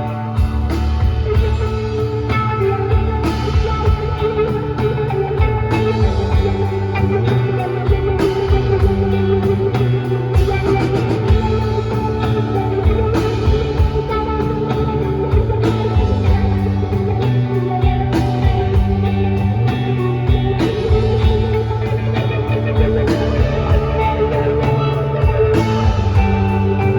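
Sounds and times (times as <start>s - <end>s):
bass guitar: 0.0s - 26.9s
drum kit: 0.0s - 26.9s
electric guitar: 0.0s - 26.9s.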